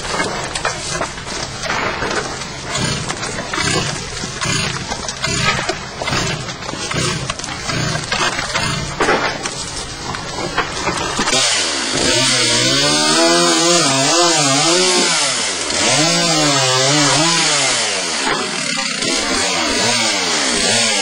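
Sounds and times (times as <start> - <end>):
chainsaw cutting wood: 0.0 - 21.0.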